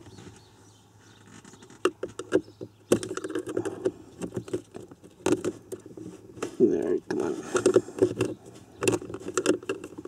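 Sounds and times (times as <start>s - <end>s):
pick scraping plastic lens: 1.1s - 10.0s.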